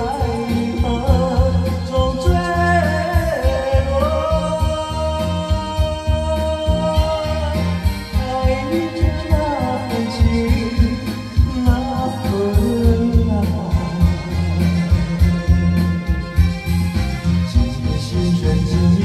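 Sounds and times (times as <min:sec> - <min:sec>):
ballad music with low beat: 0:00.0 - 0:19.0.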